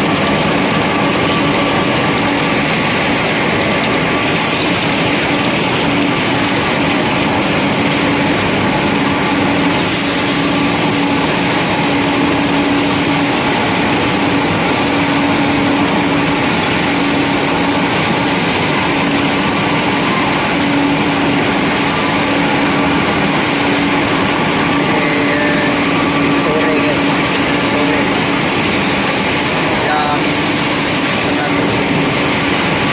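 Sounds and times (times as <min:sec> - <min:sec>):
constant machine hum: 0:00.0 - 0:32.9
pellet mills running: 0:00.0 - 0:32.9.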